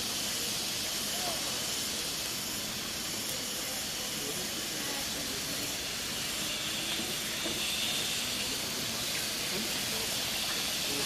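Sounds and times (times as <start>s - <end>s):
skewers sizzling on charcoal grill: 0.0s - 11.0s.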